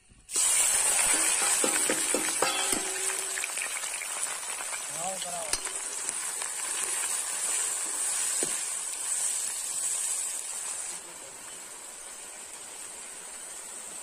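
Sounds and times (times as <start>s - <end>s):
masala sizzling in a pan: 0.1s - 14.0s
onions sizzling in hot oil: 0.2s - 14.0s.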